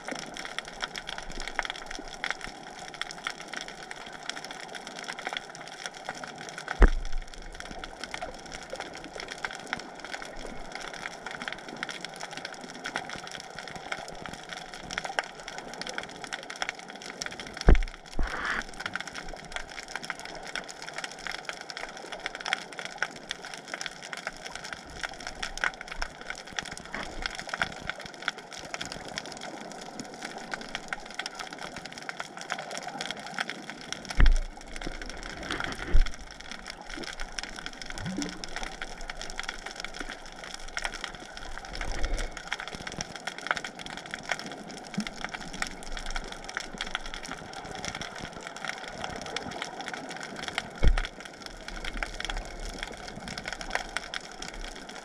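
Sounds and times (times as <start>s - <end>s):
underwater crackle of small clicks: 0.0s - 55.0s.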